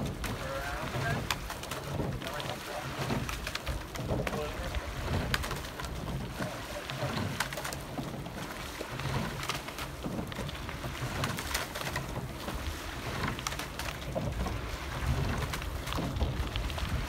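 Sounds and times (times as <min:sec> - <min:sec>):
oars splashing in water: 0:00.0 - 0:17.0.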